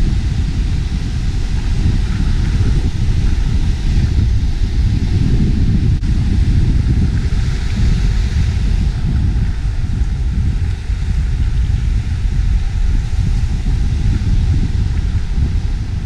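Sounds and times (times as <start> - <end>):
breaking surf hiss: 0.0 - 16.0
wind buffeting microphone: 0.0 - 16.0.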